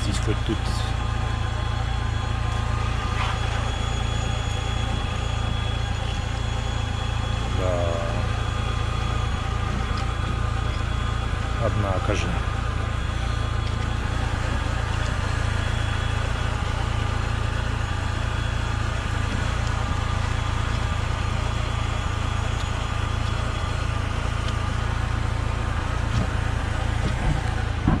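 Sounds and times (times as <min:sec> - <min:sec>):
car engine rumble: 0:00.0 - 0:28.0.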